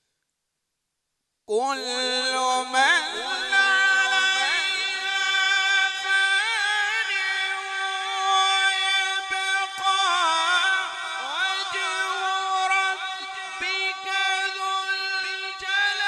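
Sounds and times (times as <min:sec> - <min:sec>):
man chanting recitation: 0:01.5 - 0:16.0.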